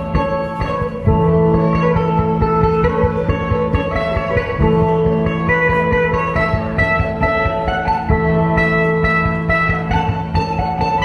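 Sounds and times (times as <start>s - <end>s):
plucked lute melody: 0.0s - 11.0s.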